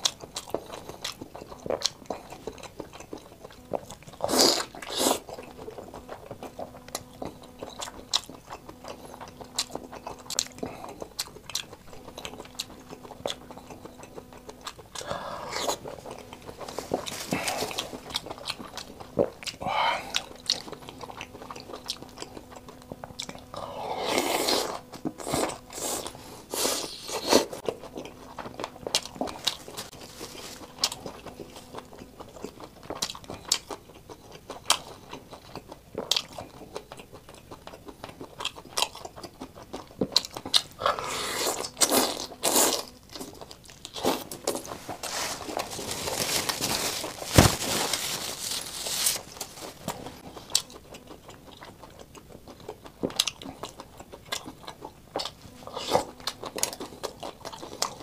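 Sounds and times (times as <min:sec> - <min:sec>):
chewing and biting shrimp: 0:00.0 - 0:58.0.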